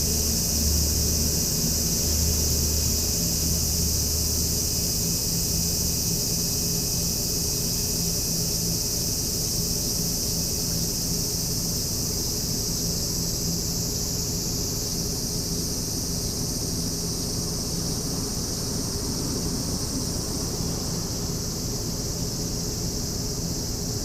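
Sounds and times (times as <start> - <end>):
high-pitched insect-like hiss: 0.0 - 24.0.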